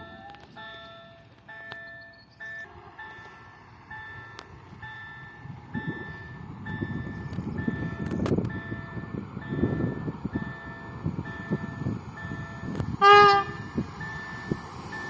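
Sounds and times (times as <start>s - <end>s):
train pulling away rumble: 0.0s - 15.0s
two-tone warning beeps: 0.0s - 15.0s.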